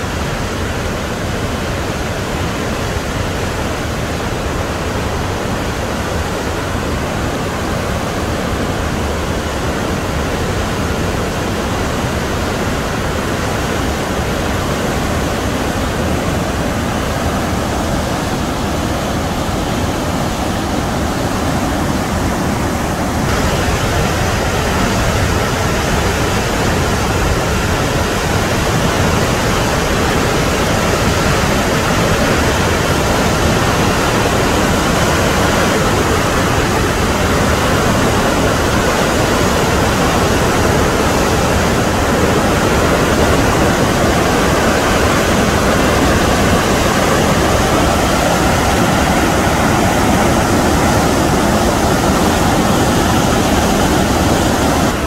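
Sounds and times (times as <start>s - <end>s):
waterfall rushing into gorge: 0.0s - 55.0s.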